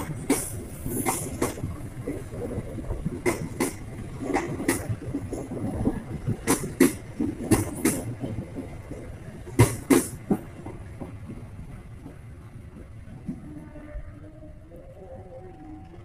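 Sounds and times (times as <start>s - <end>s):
train wheels clacking on rail joints: 0.0s - 14.0s
train rumble: 0.0s - 16.0s.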